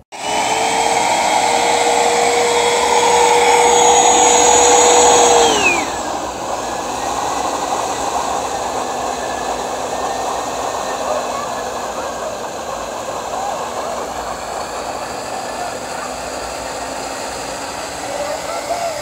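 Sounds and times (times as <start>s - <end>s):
vacuum cleaner motor whine: 0.0s - 19.0s.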